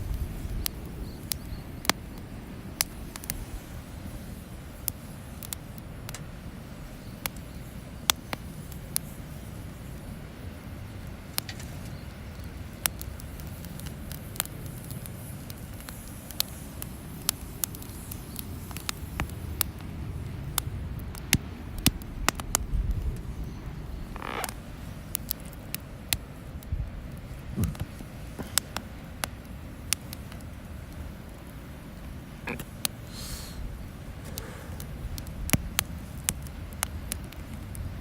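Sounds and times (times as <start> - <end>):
campfire crackling and popping: 0.0 - 38.0
low rumble of flames: 0.0 - 38.0.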